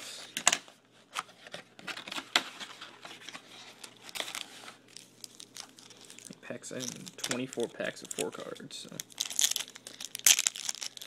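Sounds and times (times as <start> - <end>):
foil packs crinkling: 1.9 - 11.0.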